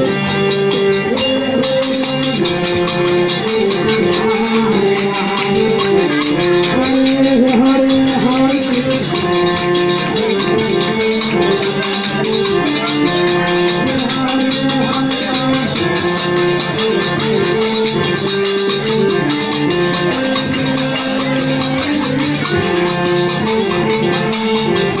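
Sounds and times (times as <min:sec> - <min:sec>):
devotional song melody: 0:00.0 - 0:25.0
rattling percussion beat: 0:00.0 - 0:25.0.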